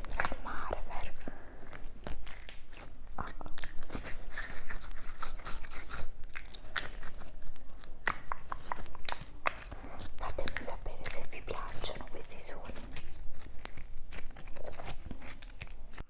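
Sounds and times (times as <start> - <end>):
crisp clicks and crackles: 0.0 - 16.0.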